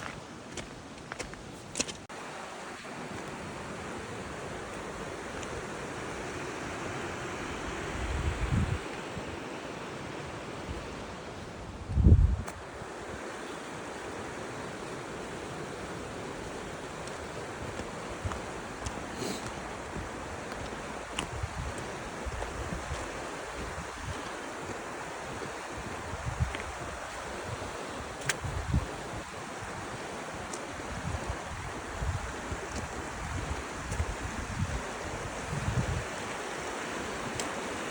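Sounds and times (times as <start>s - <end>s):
rushing wind: 1.7s - 37.9s
wind gusts buffeting microphone: 3.1s - 37.9s.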